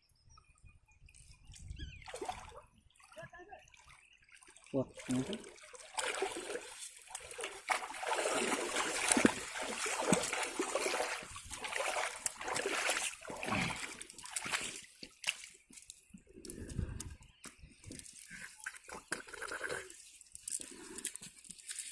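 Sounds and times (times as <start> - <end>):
water splashing and sloshing: 1.1 - 21.9.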